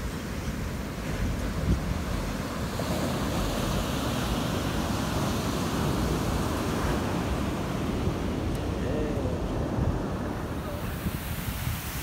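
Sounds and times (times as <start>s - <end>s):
surf breaking on sand: 0.0s - 12.0s
wind rumbling on microphone: 0.0s - 12.0s.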